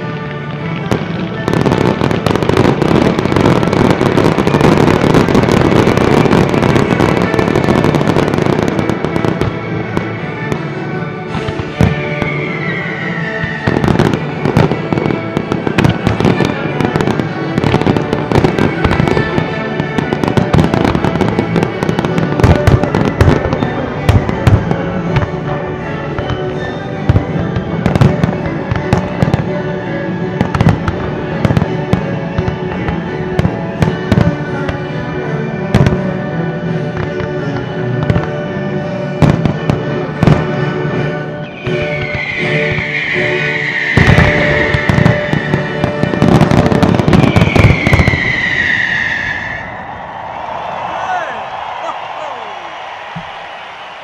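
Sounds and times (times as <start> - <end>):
music soundtrack: 0.0 - 54.0
firework falling whistle: 0.9 - 34.8, 39.2 - 54.0.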